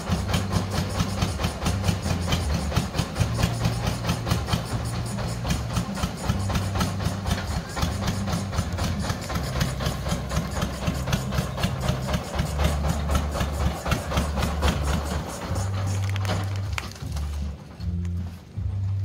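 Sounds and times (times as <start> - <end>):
drilling rig engine clattering: 0.0 - 19.0.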